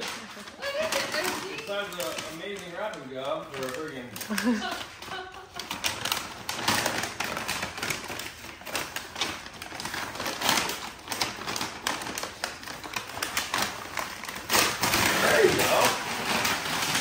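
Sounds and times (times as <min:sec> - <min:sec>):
wrapping paper tearing and crinkling: 0:00.0 - 0:17.0.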